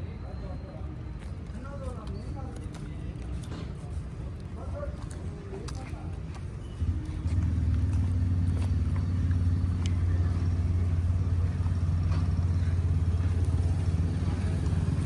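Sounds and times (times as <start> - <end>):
vehicle engine rumbling: 1.9 - 15.0.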